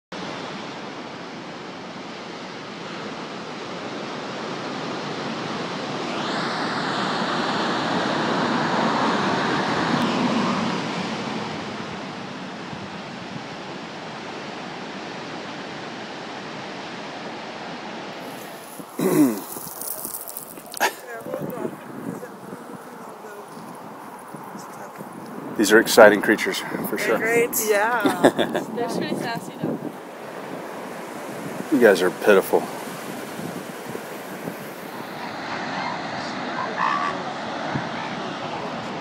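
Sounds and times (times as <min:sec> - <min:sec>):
ocean waves breaking: 0:00.2 - 0:39.0.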